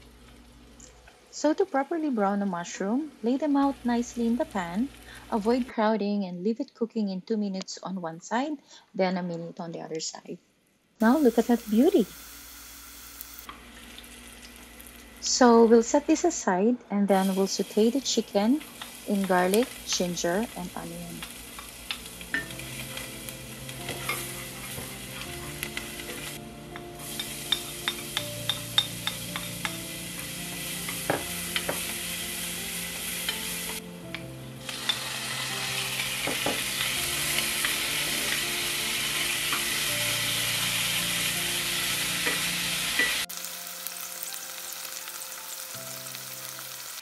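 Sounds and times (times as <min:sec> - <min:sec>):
chicken sizzling in a pan: 0:00.0 - 0:05.7, 0:11.0 - 0:16.0, 0:17.1 - 0:47.0.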